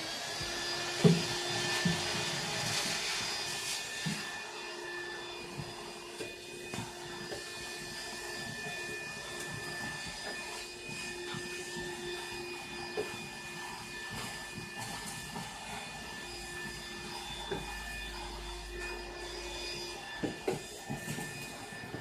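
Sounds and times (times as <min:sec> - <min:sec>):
stick vacuum motor whine: 0:00.0 - 0:22.0.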